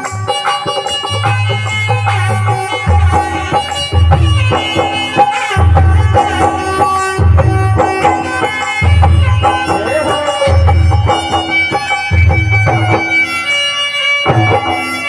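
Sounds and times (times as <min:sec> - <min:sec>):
deep bass beats: 0:00.0 - 0:13.2
hand drum rhythm: 0:00.0 - 0:13.5, 0:14.2 - 0:15.0
sustained melody instrument: 0:00.0 - 0:15.0.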